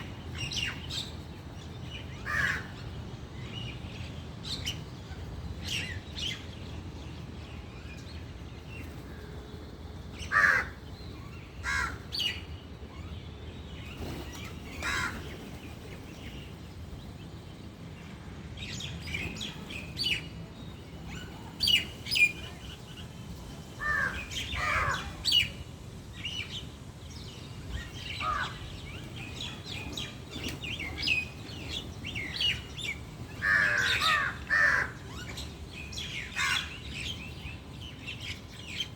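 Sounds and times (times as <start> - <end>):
birds calling and chirping: 0.0 - 38.9.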